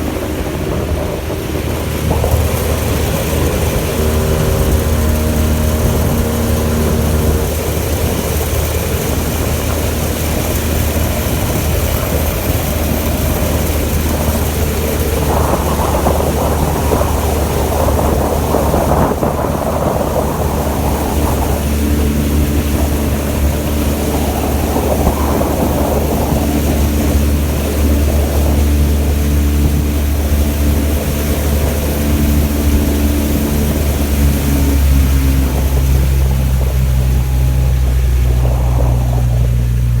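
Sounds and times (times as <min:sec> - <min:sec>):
outboard motor droning: 0:00.0 - 0:40.0
rushing noise: 0:00.0 - 0:40.0.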